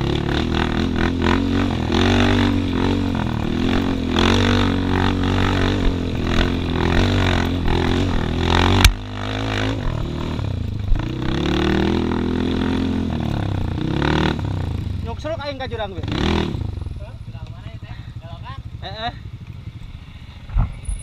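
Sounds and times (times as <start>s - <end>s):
scooter engine revving: 0.0s - 19.4s.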